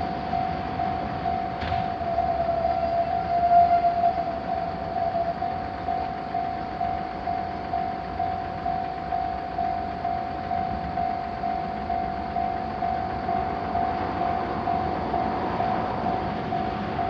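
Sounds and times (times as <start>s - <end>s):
passing train rumbling: 0.0s - 17.0s
railroad crossing bell ringing: 0.0s - 17.0s.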